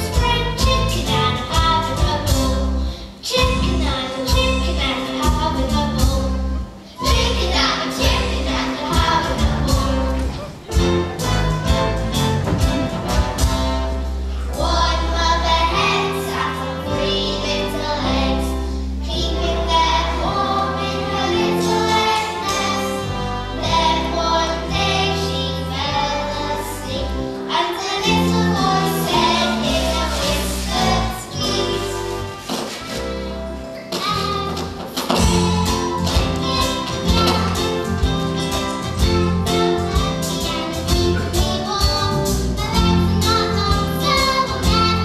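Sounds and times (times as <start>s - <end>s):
children singing: 0.0s - 11.8s, 13.4s - 45.0s
instrumental accompaniment with bass: 0.0s - 45.0s.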